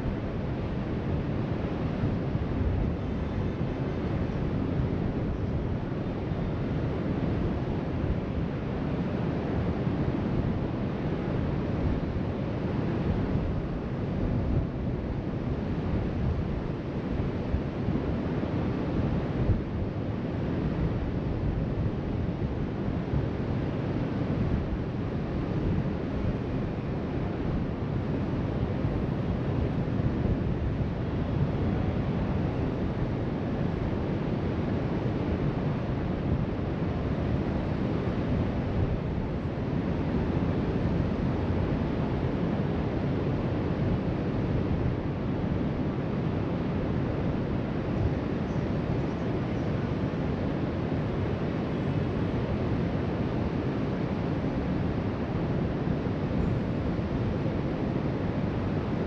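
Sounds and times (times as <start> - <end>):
wind rumbling on microphone: 0.0 - 59.0.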